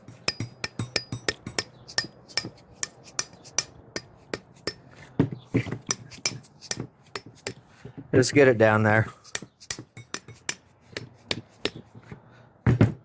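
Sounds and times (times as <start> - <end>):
metal tapping on hard surface: 0.0 - 7.7, 9.3 - 12.2.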